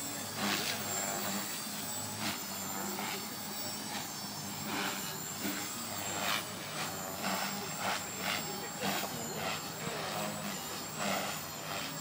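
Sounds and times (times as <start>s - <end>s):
rc helicopter motor humming: 0.0s - 12.0s.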